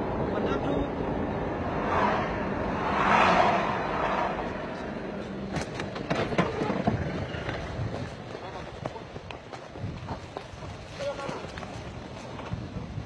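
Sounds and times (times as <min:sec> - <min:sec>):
vehicle passing on road: 0:00.0 - 0:13.0.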